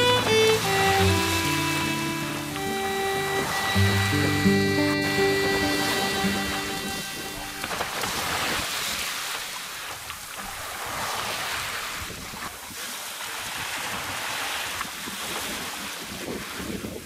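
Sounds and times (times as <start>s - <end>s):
wind buffeting microphone: 0.0s - 9.1s, 10.6s - 17.0s
sea wash: 0.0s - 17.0s.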